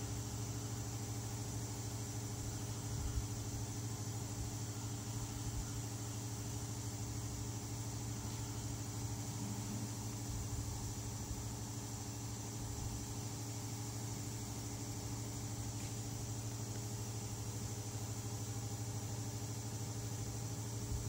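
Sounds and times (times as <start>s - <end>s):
low machine hum with hiss: 0.0s - 21.0s.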